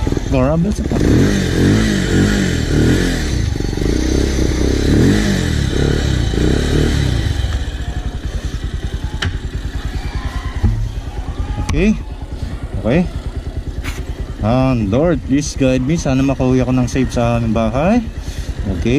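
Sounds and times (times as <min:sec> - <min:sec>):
motorcycle engine revving and idling: 0:00.0 - 0:18.9.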